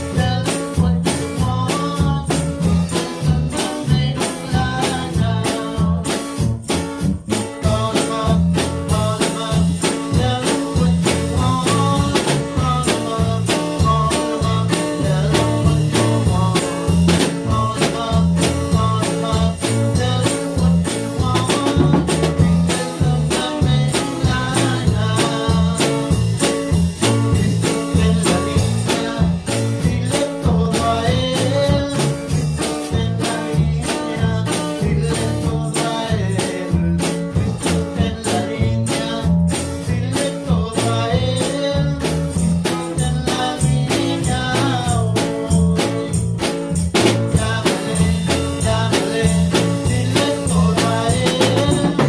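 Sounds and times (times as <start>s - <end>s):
band playing gospel song: 0.0s - 52.0s
steady drum beat: 0.0s - 52.0s.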